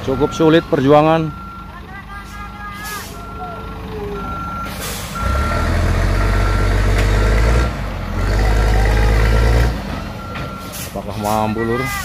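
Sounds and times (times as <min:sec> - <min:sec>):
diesel engine under load: 0:00.0 - 0:12.0
truck reverse alarm beeping: 0:00.0 - 0:12.0.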